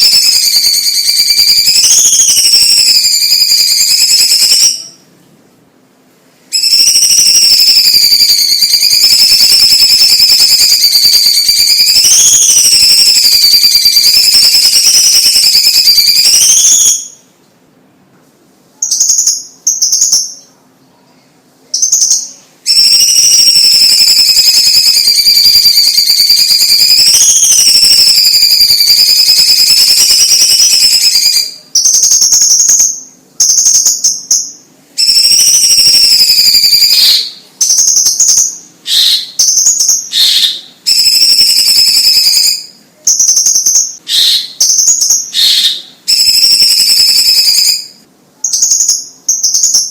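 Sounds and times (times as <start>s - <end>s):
bird singing buzzy trills: 0.0s - 5.2s, 5.8s - 17.4s, 18.8s - 49.9s.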